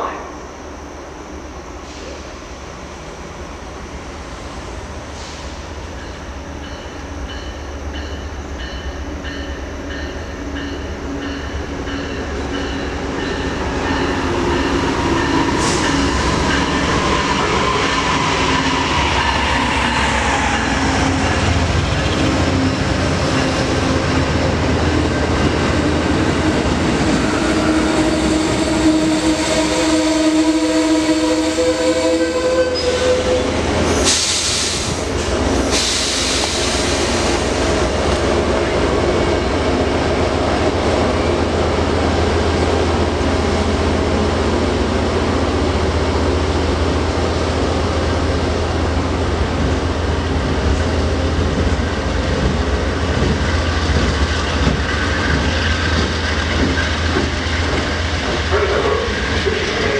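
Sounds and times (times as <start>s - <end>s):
diesel train approaching: 0.0s - 59.9s.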